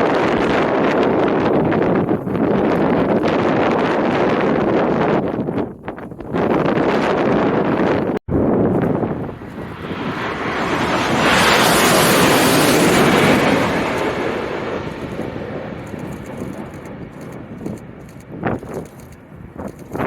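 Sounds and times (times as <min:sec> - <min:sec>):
jet airliner passing overhead: 0:00.0 - 0:04.9, 0:07.2 - 0:20.0
wind buffeting microphone: 0:00.0 - 0:20.0.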